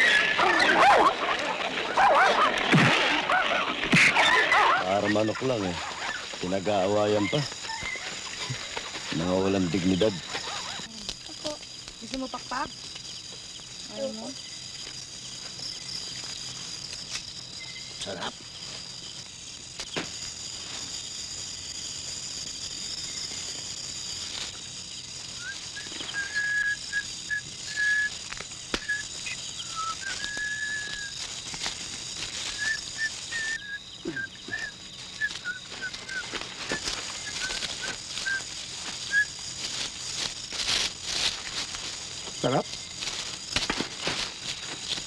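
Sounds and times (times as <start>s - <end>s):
night insects droning: 0.0s - 45.0s.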